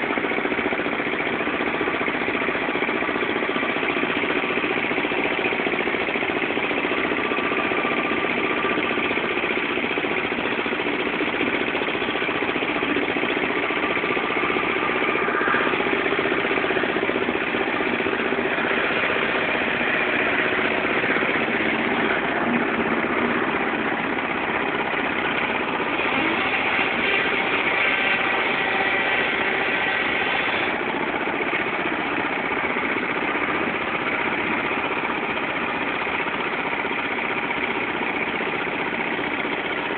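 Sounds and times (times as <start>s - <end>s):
tractor diesel engine roaring: 0.0s - 39.9s.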